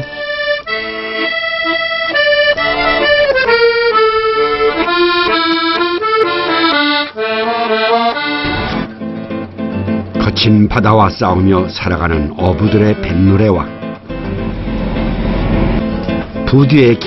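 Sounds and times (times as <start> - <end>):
accordion melody: 0.0 - 17.0.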